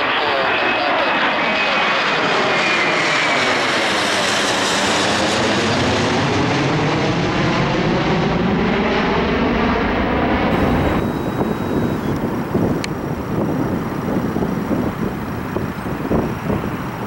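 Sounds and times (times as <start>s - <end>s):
jet airliner roaring overhead: 0.0s - 17.0s.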